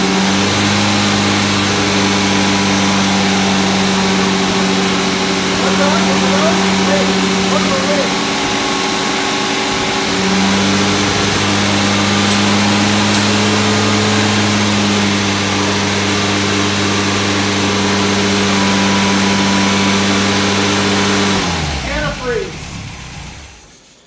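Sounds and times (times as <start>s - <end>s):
car engine running steadily: 0.0s - 23.6s.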